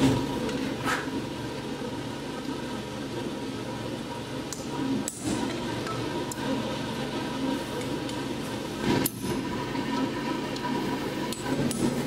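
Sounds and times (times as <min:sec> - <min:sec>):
whirring hum: 0:00.0 - 0:12.0.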